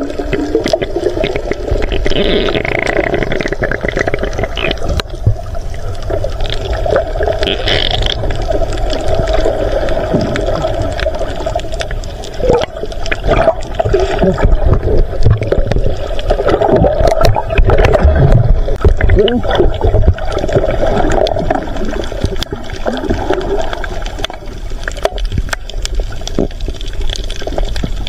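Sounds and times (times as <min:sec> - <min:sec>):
low underwater rumble: 0:00.0 - 0:28.0
water sloshing and gurgling: 0:00.0 - 0:28.0
sharp underwater clicks: 0:00.3 - 0:05.5, 0:06.4 - 0:28.0.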